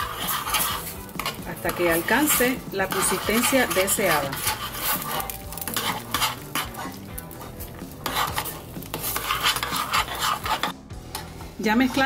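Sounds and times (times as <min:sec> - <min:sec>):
spoon scraping dough in a pot: 0:00.0 - 0:12.0.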